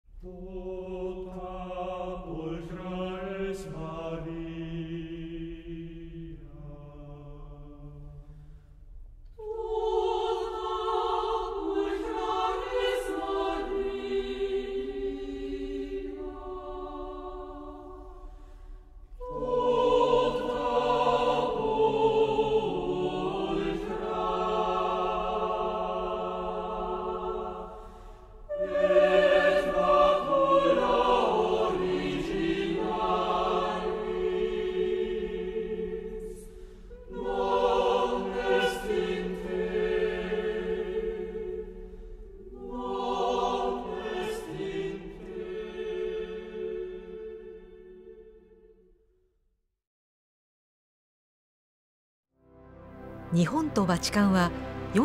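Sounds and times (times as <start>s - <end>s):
choir singing sustained chords: 0.2s - 49.0s, 52.4s - 55.0s.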